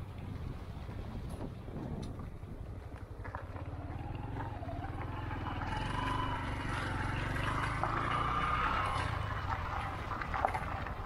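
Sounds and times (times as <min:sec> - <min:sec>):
vehicle engine whining: 0:01.6 - 0:11.0.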